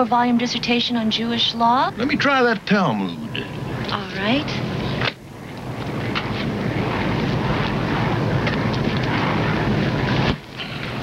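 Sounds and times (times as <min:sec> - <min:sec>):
aircraft engines roaring in cabin: 0:00.0 - 0:11.0.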